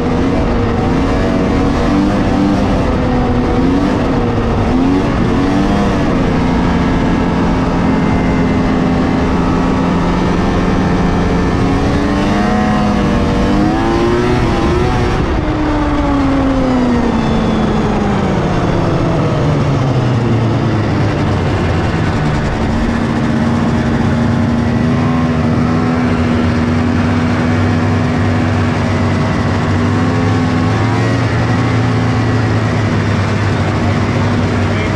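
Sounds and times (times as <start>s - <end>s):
snowmobile engine running: 0.0s - 34.9s.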